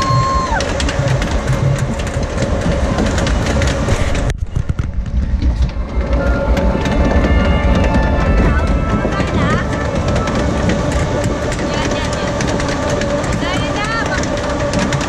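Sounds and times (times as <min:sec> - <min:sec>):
ride boat clattering along track: 0:00.0 - 0:15.0.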